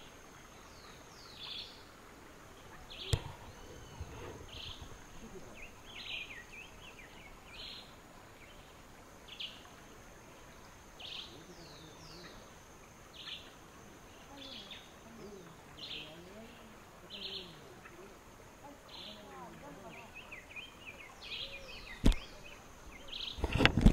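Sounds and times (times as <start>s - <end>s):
birds chirping: 0.0s - 23.8s.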